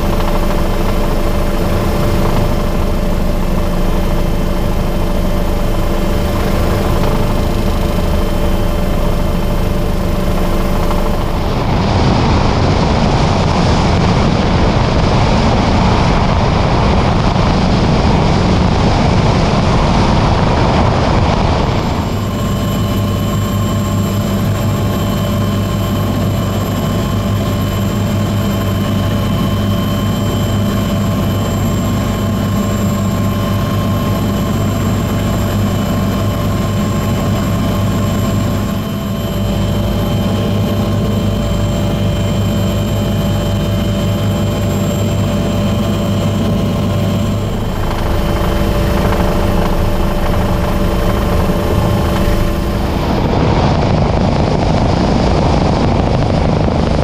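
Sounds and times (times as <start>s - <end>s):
helicopter in flight: 0.0s - 57.0s.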